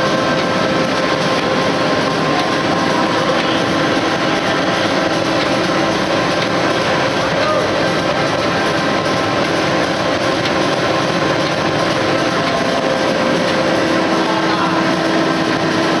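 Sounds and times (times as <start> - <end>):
constant machine hums: 0.0 - 16.0
printing machine running: 0.0 - 16.0.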